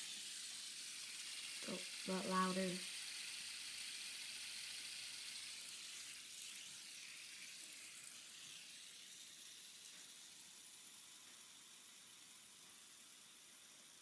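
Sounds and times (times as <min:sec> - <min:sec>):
fidget spinner whirring: 0:00.0 - 0:14.0.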